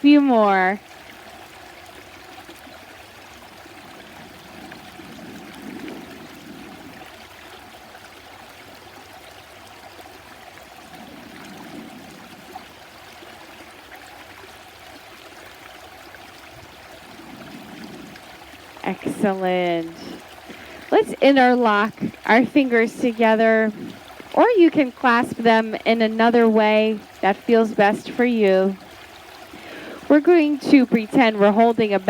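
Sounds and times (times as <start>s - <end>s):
stream water flowing: 0.0s - 32.0s.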